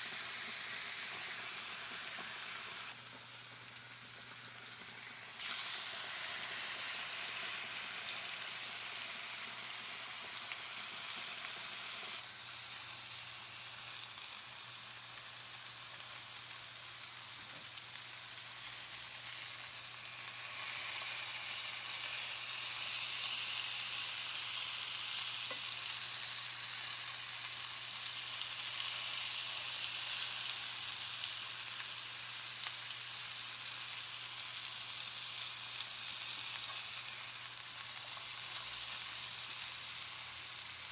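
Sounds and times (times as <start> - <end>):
chicken sizzling in a pan: 0.0 - 40.9.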